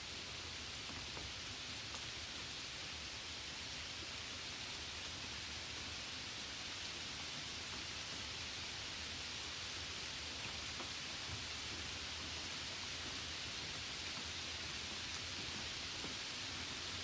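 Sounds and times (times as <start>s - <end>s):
rain hissing on trees: 0.0s - 17.0s.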